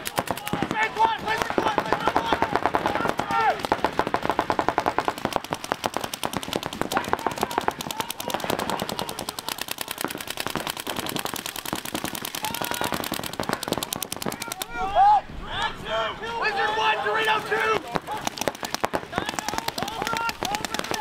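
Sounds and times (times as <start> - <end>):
paintball markers firing rapidly: 0.0 - 14.8, 17.4 - 21.0.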